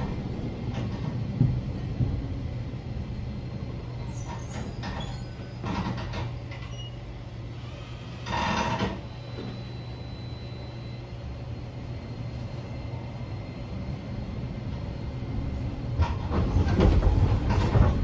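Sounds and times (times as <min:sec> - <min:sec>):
tram interior low hum: 0:00.0 - 0:18.0.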